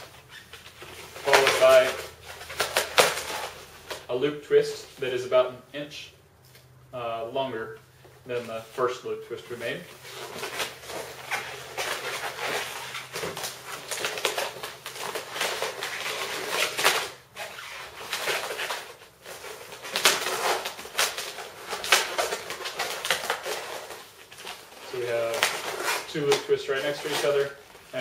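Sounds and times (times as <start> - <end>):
balloons squeaking and rubbing: 0.0 - 4.1, 9.5 - 28.0.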